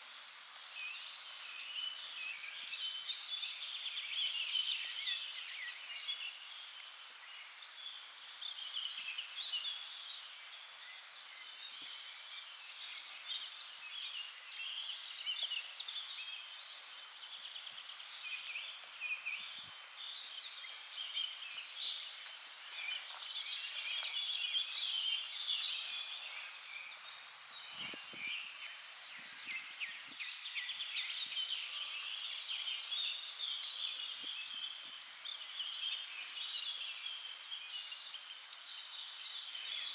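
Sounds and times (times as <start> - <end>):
small birds chirping: 0.5 - 39.9.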